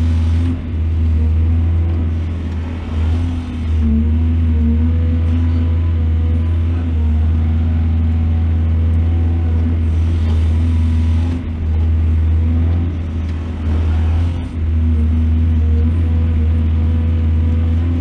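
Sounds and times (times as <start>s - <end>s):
heavy diesel engine humming: 0.0s - 18.0s.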